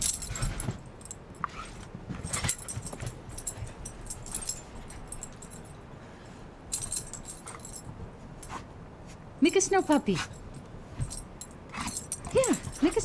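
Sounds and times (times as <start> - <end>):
light clicks and jingles: 0.0 - 13.0.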